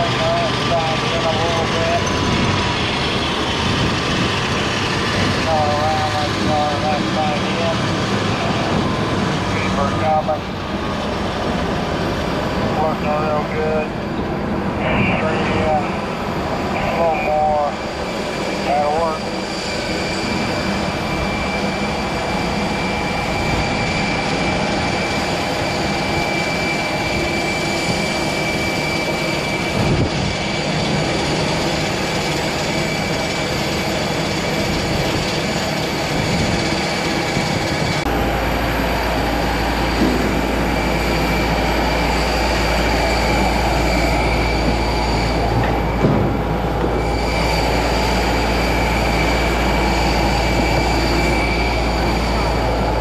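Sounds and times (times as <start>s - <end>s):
constant high whine: 0.0s - 53.0s
ground machinery noise: 0.0s - 53.0s.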